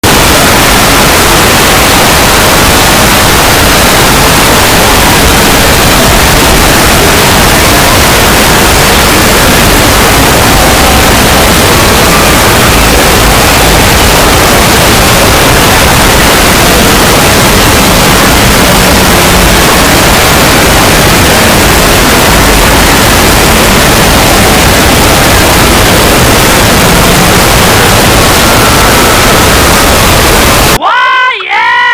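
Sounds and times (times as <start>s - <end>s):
harsh static noise: 0.0s - 31.9s.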